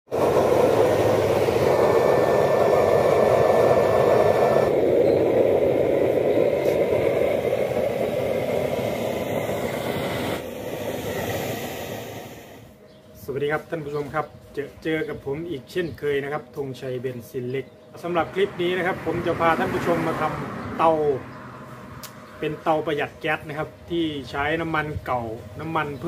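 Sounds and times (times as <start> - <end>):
roar of flame and blower fan: 0.0 - 14.5, 18.0 - 26.0.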